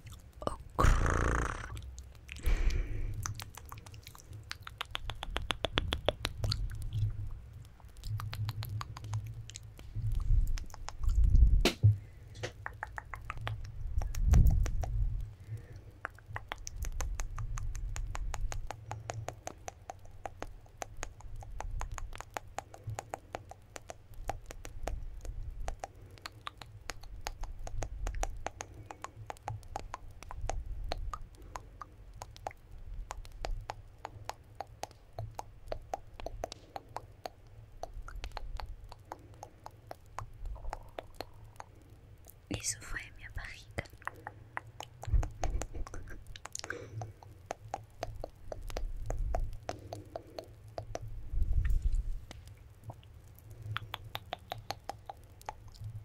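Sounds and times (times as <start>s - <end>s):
wet mouth clicks and smacks: 0.0s - 56.0s.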